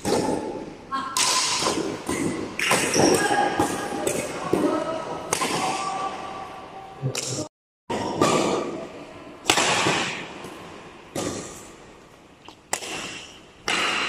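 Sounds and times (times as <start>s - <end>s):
racket hitting shuttlecock: 0.0s - 6.0s, 7.1s - 8.8s, 9.4s - 11.8s, 12.5s - 14.0s.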